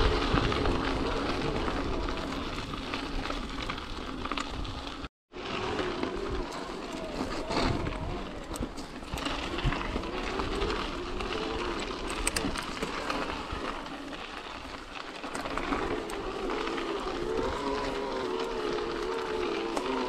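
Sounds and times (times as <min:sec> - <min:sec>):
bike clicks and rattles: 0:00.0 - 0:20.0
electric bike motor whining: 0:00.0 - 0:20.0
low wind noise: 0:00.0 - 0:20.0.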